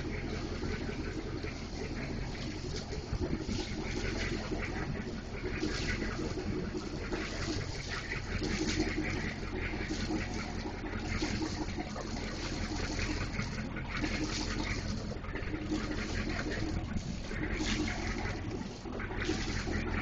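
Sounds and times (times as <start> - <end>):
low mechanical hum: 0.0 - 20.0
rushing splashing water: 0.0 - 20.0.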